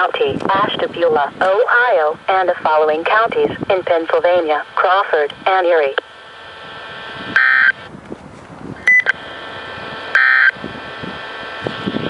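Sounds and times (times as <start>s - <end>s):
radio static hiss: 0.0s - 7.9s, 8.9s - 12.0s.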